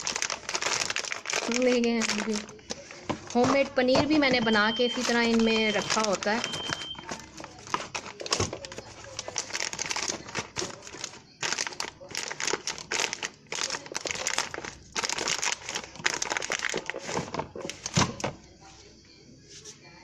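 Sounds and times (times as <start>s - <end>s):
packaging crinkling: 0.0s - 18.3s.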